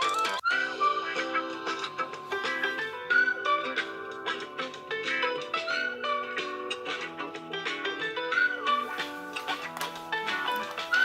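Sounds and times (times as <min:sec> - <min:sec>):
phone ringtone melody: 0:00.0 - 0:11.0.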